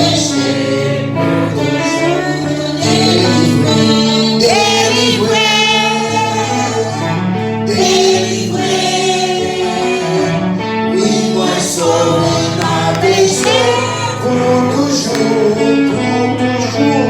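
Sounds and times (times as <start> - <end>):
gospel singing voices: 0.0 - 17.0.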